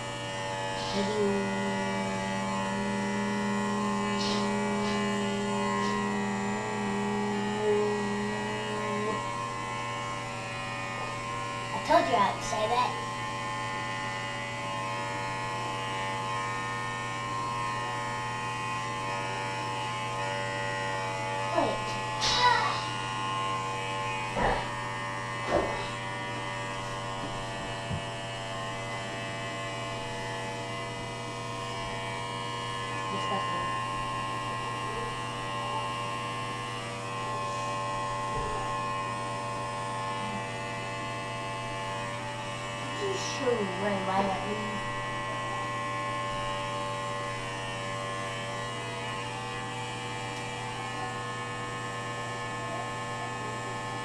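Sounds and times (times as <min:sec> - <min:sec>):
electric hair clippers humming: 0:00.0 - 0:54.0.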